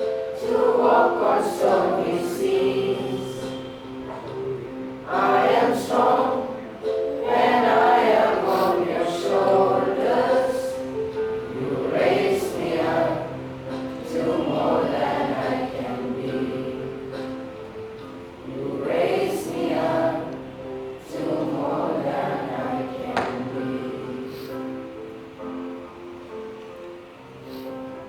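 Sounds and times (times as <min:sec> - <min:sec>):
children's choir singing: 0:00.0 - 0:25.8
held steady notes: 0:00.0 - 0:28.0.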